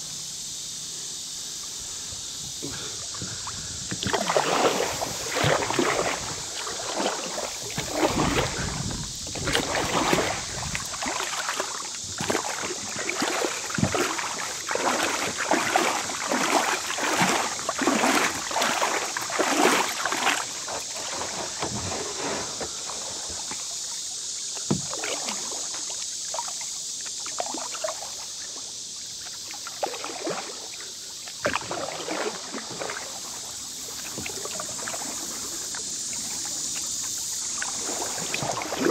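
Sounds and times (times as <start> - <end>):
steady hiss: 0.0 - 14.7, 19.0 - 31.5, 32.4 - 38.9
kayak paddle splashing: 0.0 - 38.9.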